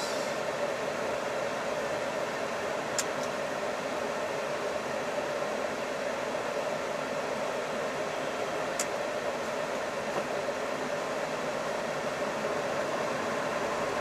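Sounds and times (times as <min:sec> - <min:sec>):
air-conditioning fan blowing: 0:00.0 - 0:14.0.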